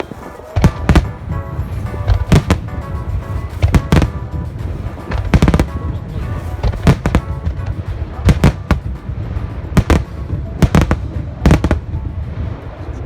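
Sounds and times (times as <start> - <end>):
fireworks bursting with sharp bangs: 0.0 - 12.8
music: 0.0 - 13.0.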